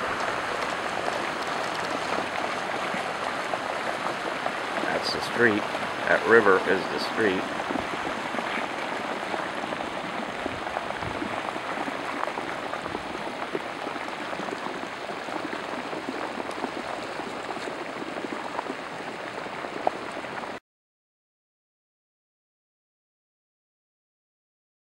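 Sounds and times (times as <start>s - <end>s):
floodwater rushing down street: 0.0s - 20.6s.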